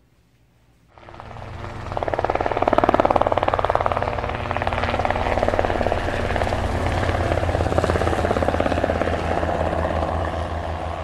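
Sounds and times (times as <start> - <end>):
helicopter rotor chopping: 0.9 - 11.0.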